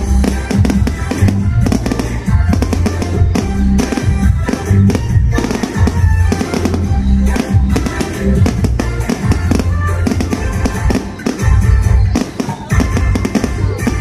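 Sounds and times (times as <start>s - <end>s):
fireworks crackling bangs: 0.0s - 14.0s
loud music with heavy drum beat: 0.0s - 14.0s.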